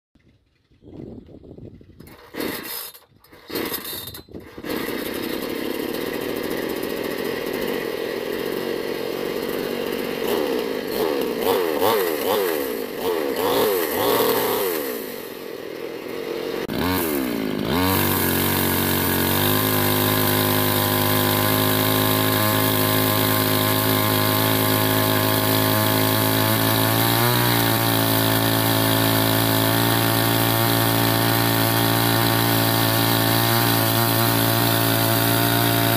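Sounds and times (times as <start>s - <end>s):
chainsaw cutting wood: 2.0s - 35.9s.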